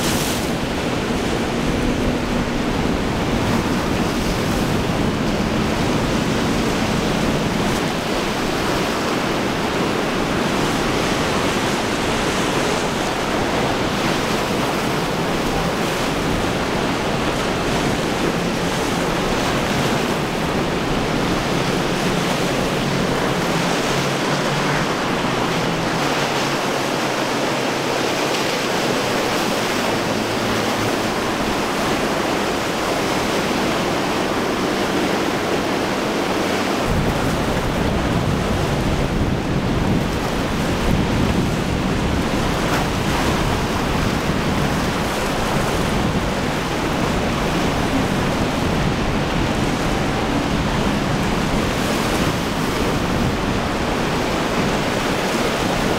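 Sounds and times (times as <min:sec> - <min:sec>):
surf and breaking waves: 0:00.0 - 0:55.9
wind on microphone: 0:00.0 - 0:55.9.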